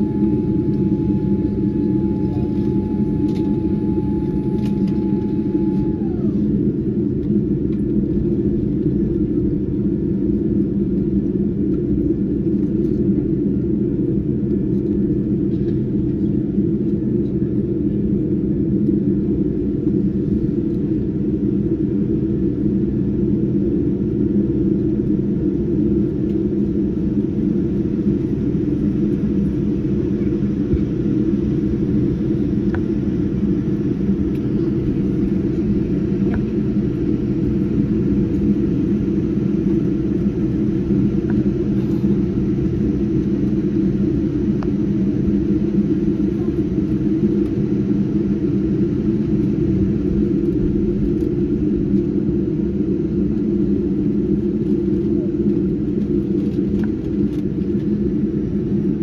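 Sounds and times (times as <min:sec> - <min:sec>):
aircraft cabin rumble while taxiing: 0:00.0 - 0:59.0.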